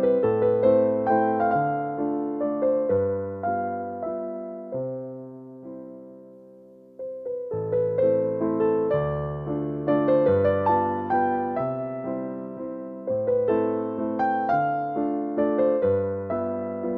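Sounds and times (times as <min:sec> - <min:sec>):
slow piano melody: 0:00.0 - 0:16.9.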